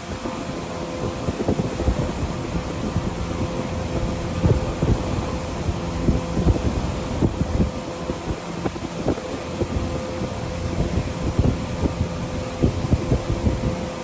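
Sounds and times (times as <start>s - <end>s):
motor humming: 0.0s - 14.0s
wind buffeting microphone: 0.0s - 14.0s.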